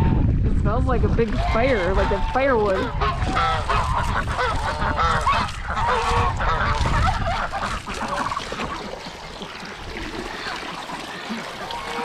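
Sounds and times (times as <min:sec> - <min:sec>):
geese honking: 0:01.3 - 0:12.0.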